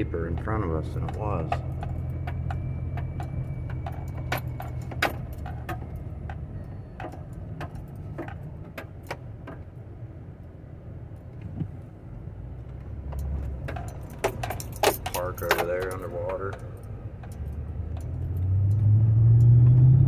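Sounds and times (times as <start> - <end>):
light clicks and jingles: 0.0 - 9.8, 12.6 - 19.5
vehicle hum from inside cab: 0.0 - 20.0.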